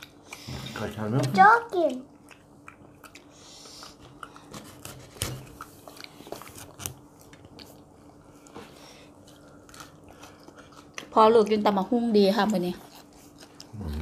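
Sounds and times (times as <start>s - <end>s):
faint steady hum: 0.0s - 14.0s
people chewing food: 0.0s - 14.0s.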